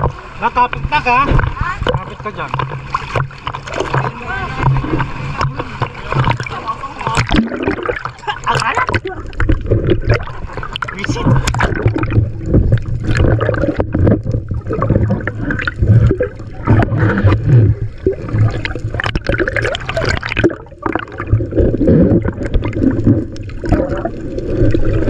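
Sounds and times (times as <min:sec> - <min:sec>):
seawater gurgling and sloshing: 0:00.0 - 0:25.0
water splashing and bubbling: 0:00.0 - 0:25.0.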